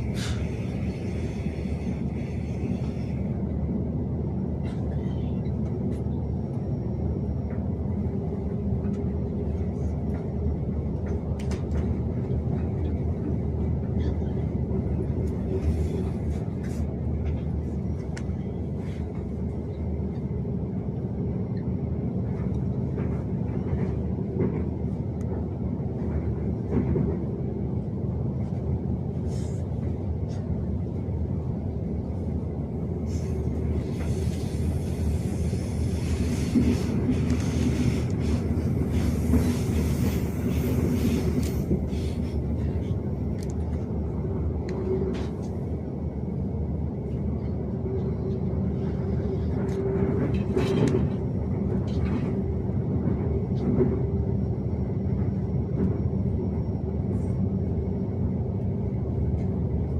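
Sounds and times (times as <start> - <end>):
moving vehicle rumble: 0.0 - 59.9.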